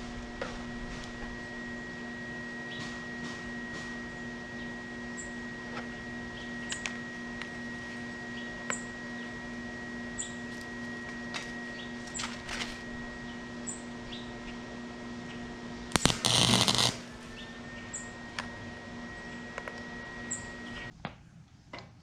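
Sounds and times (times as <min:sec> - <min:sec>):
machine hum: 0:00.0 - 0:20.9.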